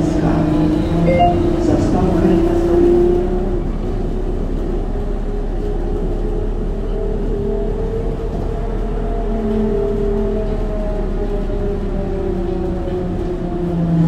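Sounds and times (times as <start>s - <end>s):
trolleybus machinery humming: 0.0s - 14.0s.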